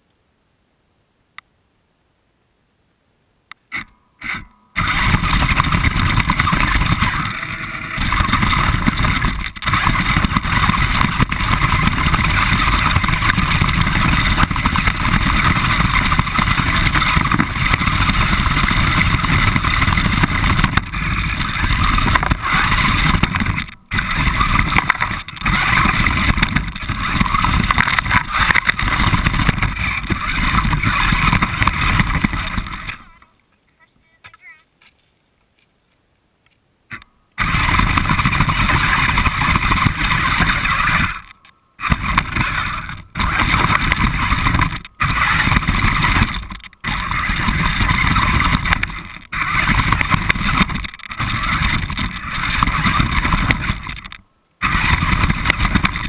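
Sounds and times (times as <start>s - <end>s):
radio-controlled car driving: 3.7s - 34.5s, 36.9s - 56.0s.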